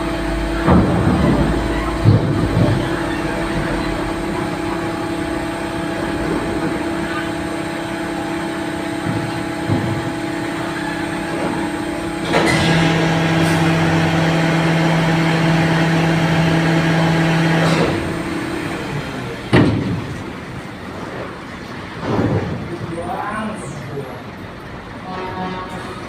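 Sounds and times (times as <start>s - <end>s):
heavy vehicle engine running: 0.0s - 26.0s.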